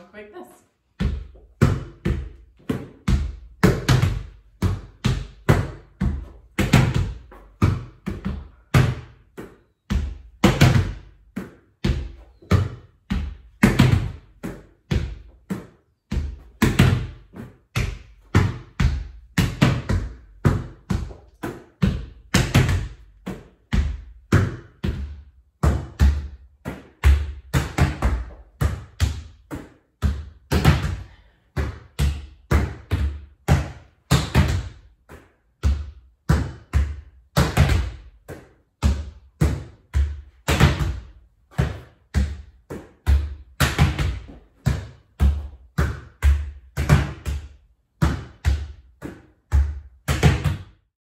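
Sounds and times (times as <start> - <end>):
volleyball smacks and bounces: 1.0 - 50.9.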